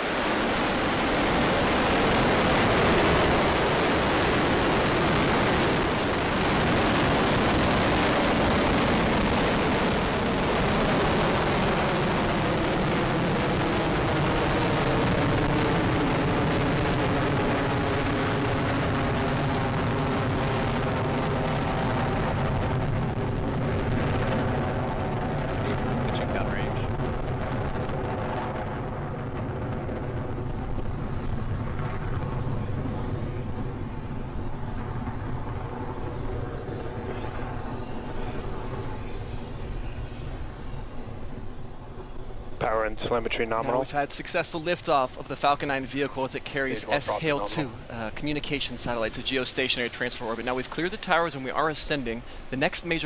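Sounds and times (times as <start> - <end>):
rocket exhaust roar: 0.0 - 53.0.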